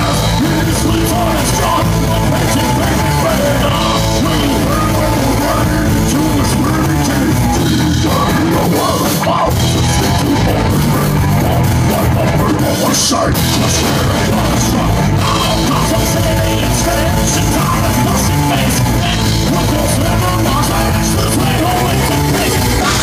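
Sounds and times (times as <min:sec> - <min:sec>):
drum kit: 0:00.0 - 0:23.0
rock band playing live: 0:00.0 - 0:23.0.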